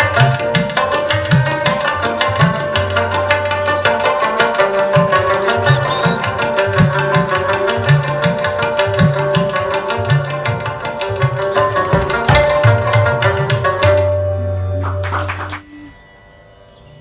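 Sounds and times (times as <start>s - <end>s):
plucked strings: 0.0s - 17.0s.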